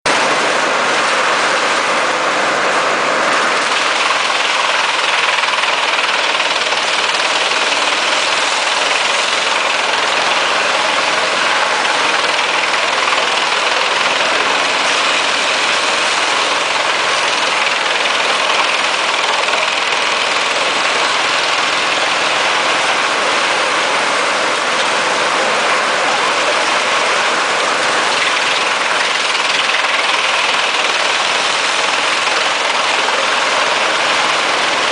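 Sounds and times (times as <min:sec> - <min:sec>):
wood chipper diesel engine running: 0:00.1 - 0:34.9.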